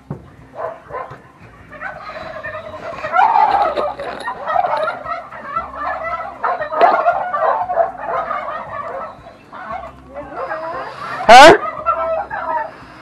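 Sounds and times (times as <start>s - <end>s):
turkeys gobbling: 0.1s - 13.0s.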